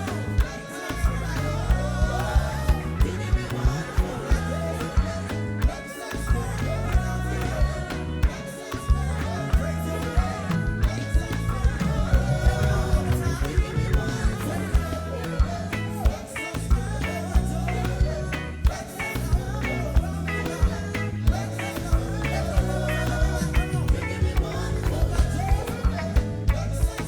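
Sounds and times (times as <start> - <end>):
band playing reggae gospel: 0.0 - 27.0
bass guitar: 0.0 - 27.0
drums: 0.0 - 27.0
person singing: 0.0 - 27.0.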